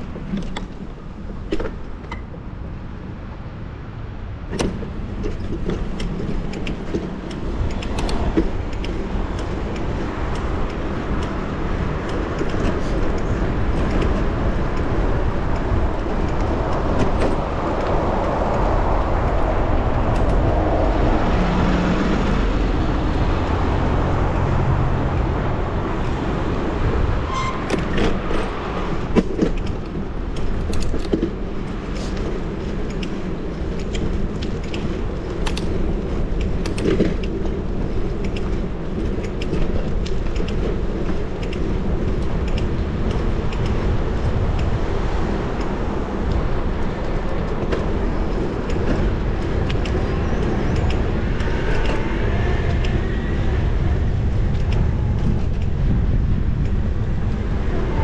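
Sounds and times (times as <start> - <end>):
low rumble of road and air: 0.0 - 58.0
motor traffic: 0.0 - 58.0
sharp clicks and rattles: 4.5 - 21.4, 22.8 - 57.6.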